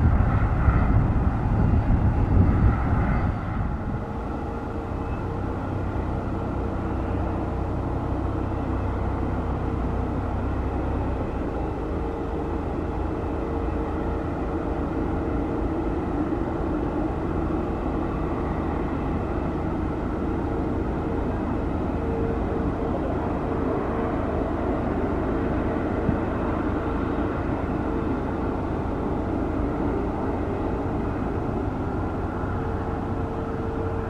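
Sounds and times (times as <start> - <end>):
deep rumble: 0.0 - 34.0
jet engines running: 0.0 - 34.0.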